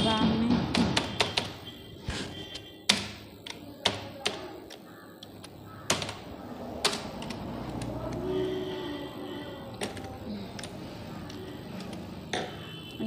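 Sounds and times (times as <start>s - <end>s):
keyboard typing clicks: 0.7s - 1.6s, 2.5s - 13.0s.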